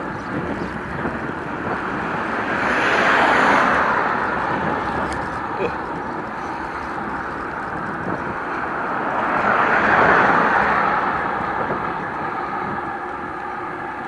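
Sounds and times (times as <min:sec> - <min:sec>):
wind rushing: 0:00.0 - 0:13.3
road traffic: 0:00.0 - 0:14.0.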